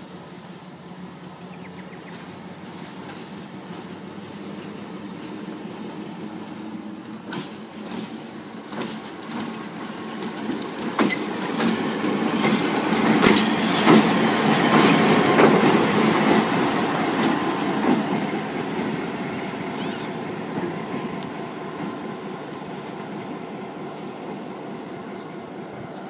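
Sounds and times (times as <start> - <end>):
wheels clicking over rail joints: 2.6 - 25.8.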